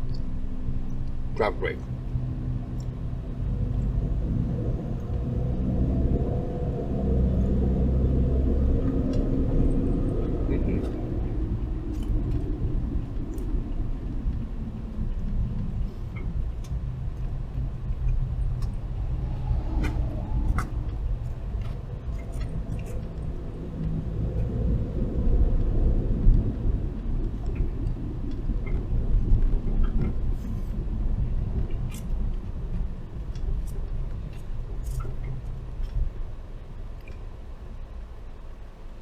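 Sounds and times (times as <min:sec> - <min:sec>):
car interior rumble: 0:00.0 - 0:39.0.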